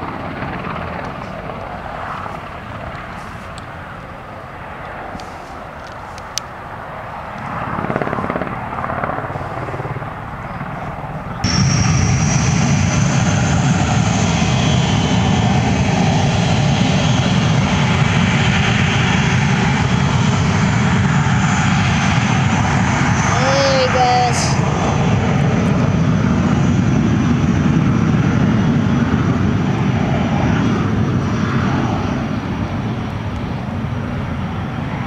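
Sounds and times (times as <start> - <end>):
helicopter rotors and engines: 0.0 - 35.0
jet engines whining: 0.0 - 35.0.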